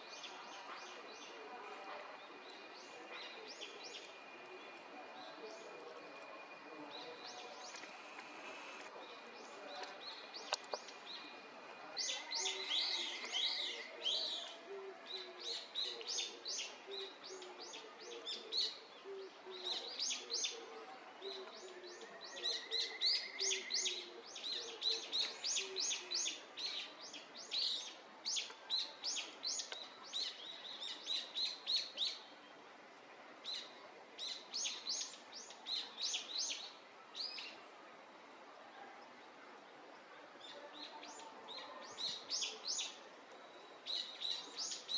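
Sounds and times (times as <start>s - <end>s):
small songbirds chirping: 0.0s - 20.6s, 21.2s - 32.3s, 33.4s - 37.6s, 40.8s - 44.9s.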